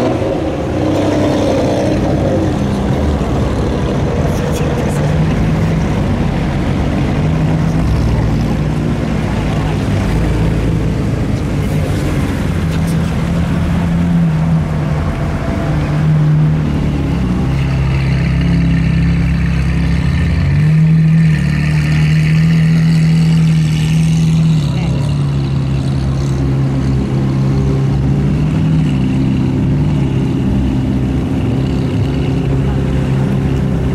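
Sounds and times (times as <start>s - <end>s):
sports car engines at low revs: 0.0s - 33.9s.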